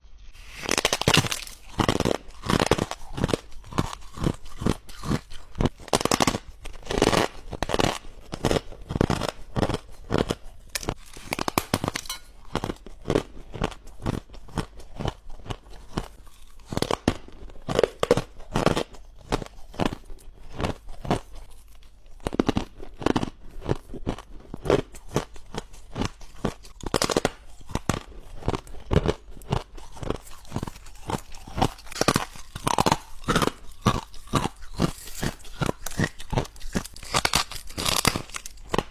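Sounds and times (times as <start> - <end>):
ice crunching being chewed: 0.4 - 38.9.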